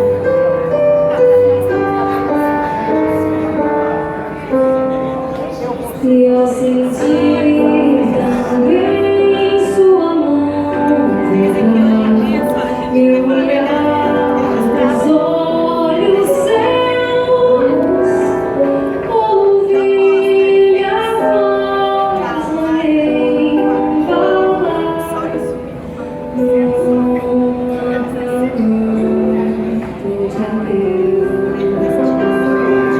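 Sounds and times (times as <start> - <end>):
instrumental accompaniment: 0.0 - 32.9
woman singing: 5.8 - 32.9.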